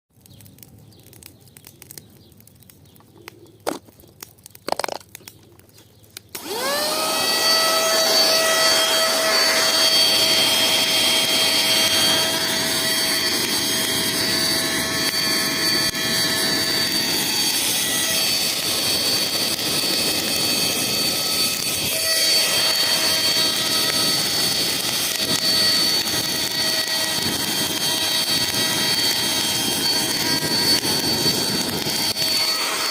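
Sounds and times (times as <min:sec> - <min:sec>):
vacuum cleaner whining: 0:06.3 - 0:32.9.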